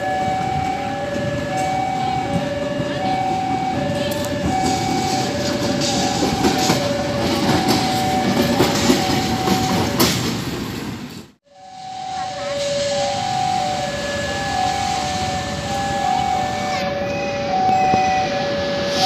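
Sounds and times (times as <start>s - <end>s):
level crossing alarm two tones: 0.0s - 10.0s, 11.6s - 19.0s
train rolling and clicking: 0.0s - 11.4s, 12.4s - 19.0s.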